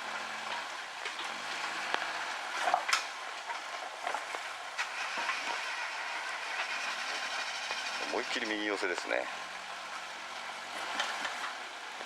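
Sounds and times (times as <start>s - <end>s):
vehicle engine at low speed: 0.0s - 12.0s.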